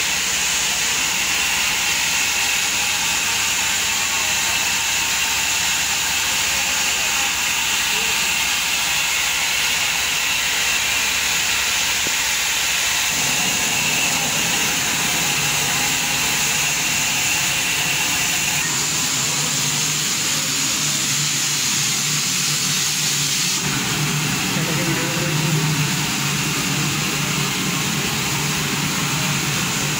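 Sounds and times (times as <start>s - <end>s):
steam locomotive hissing: 0.0s - 29.9s.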